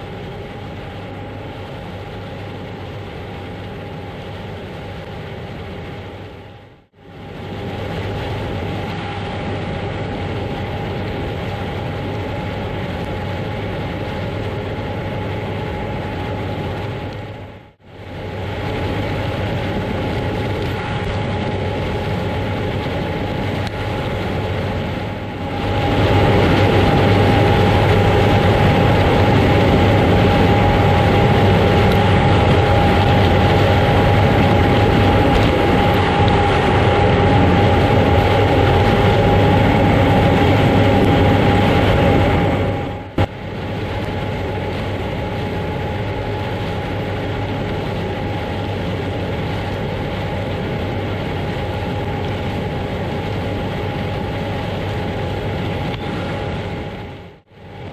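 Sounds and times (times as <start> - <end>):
harvest machinery drone with whine: 0.0 - 57.9.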